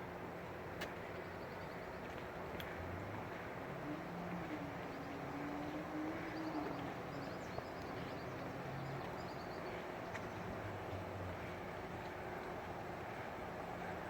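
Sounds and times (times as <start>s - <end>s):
distant road traffic hum: 0.1s - 14.0s.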